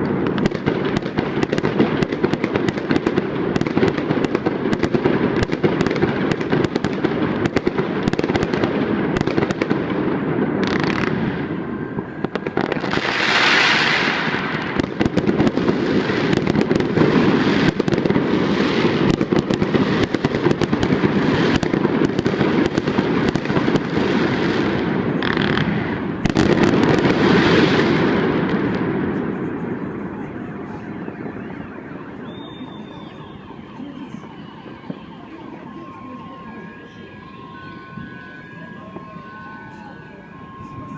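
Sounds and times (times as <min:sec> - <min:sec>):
fireworks popping and crackling: 0:00.0 - 0:40.9.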